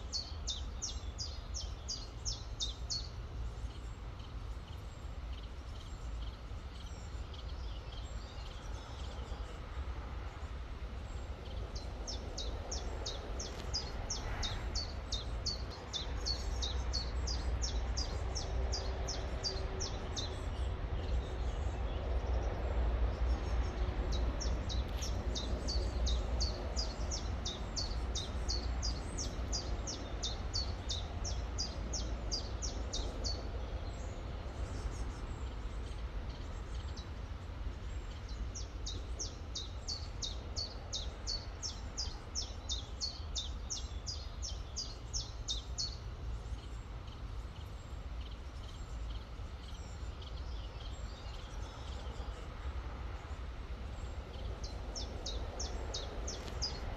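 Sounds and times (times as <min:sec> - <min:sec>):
songbird singing: 0:00.0 - 0:56.9.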